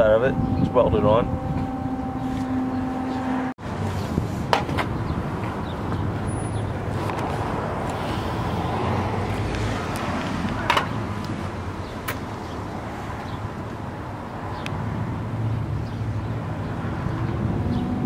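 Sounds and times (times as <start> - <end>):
outdoor traffic noise: 0.0 - 18.0.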